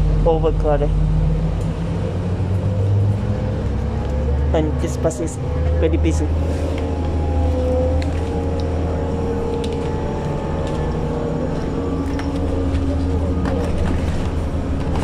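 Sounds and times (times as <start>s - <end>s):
bus engine drone: 0.0s - 15.0s
passengers talking: 0.0s - 15.0s.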